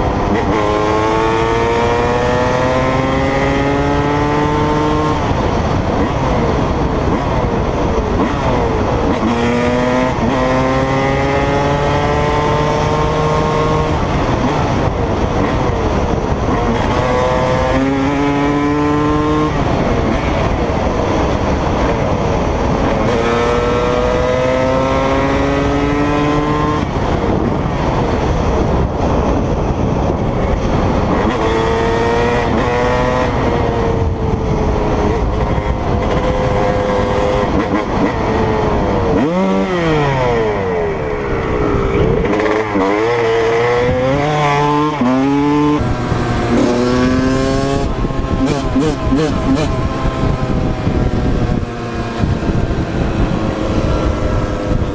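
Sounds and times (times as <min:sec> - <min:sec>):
dirt bike engine revving: 0:00.0 - 0:27.5, 0:34.6 - 0:54.9
wind noise: 0:00.0 - 0:54.9.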